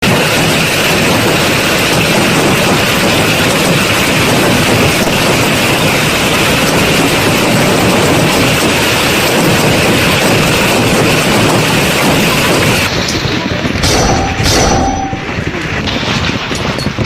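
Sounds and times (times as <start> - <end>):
heavy hail pelting down: 0.0 - 17.0.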